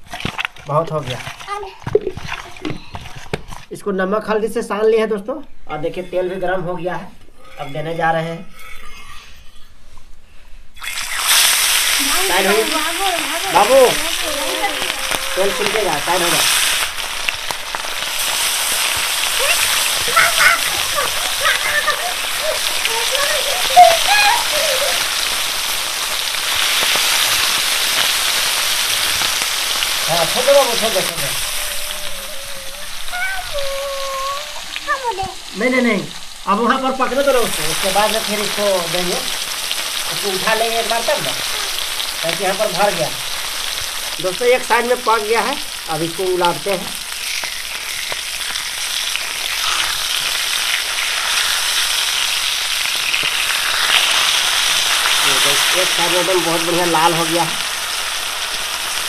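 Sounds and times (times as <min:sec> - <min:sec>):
fish sizzling in hot oil: 0:00.0 - 0:04.3, 0:10.7 - 0:59.0.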